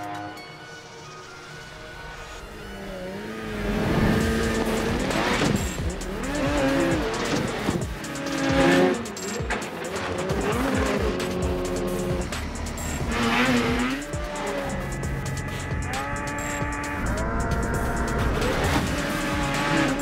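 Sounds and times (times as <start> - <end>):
background music: 0.0 - 20.0
snowmobile engine revving: 1.8 - 20.0.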